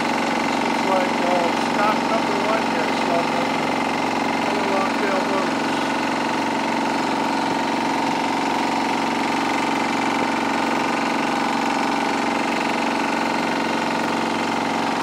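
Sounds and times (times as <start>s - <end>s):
boat engine running loud: 0.0s - 15.0s.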